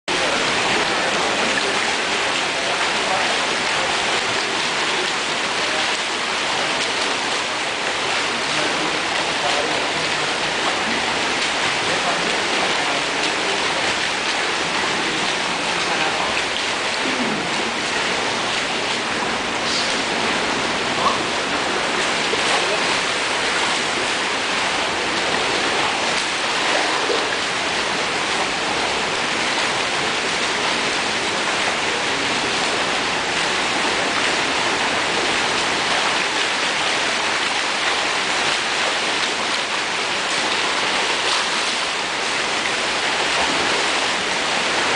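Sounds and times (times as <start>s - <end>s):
swimming water splashing: 0.1s - 44.9s.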